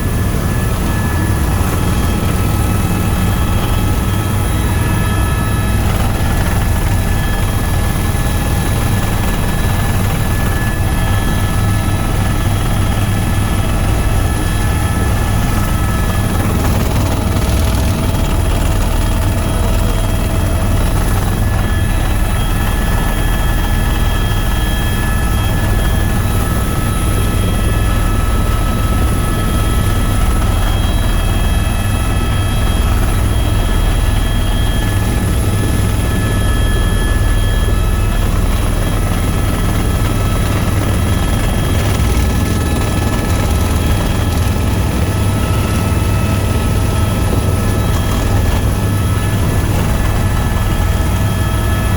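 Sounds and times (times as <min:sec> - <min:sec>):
helicopter rotor and engine drone: 0:00.0 - 0:51.9.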